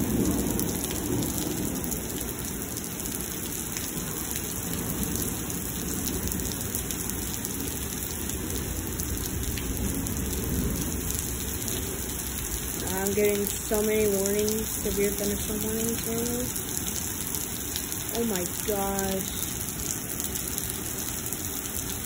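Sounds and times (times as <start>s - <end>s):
heavy rain pouring onto pavement: 0.0s - 22.0s.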